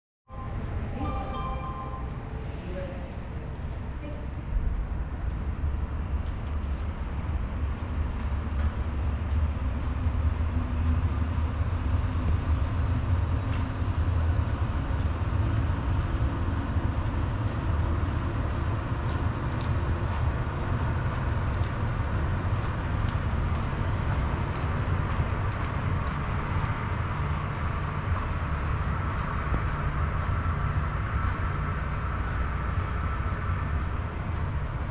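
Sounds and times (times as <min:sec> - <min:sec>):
jet engines rumbling: 0:01.7 - 0:34.9.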